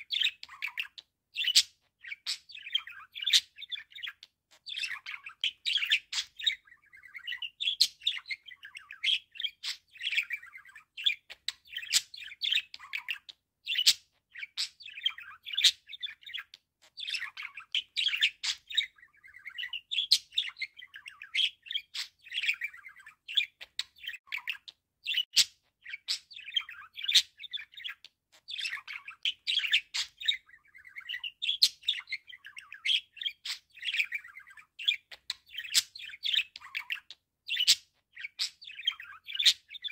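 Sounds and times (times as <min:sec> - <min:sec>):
budgerigar warbling and chirping: 0:00.0 - 0:39.9.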